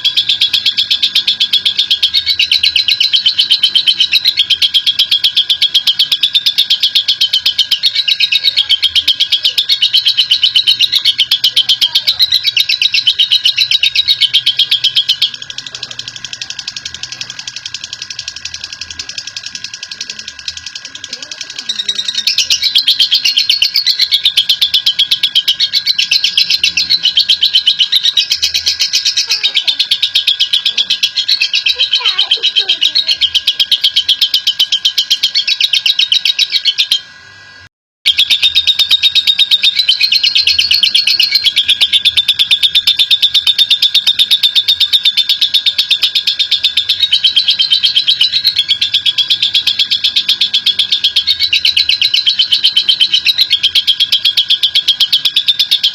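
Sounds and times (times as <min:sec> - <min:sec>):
lovebird shrill chatter: 0:00.0 - 0:37.1, 0:38.1 - 0:55.9.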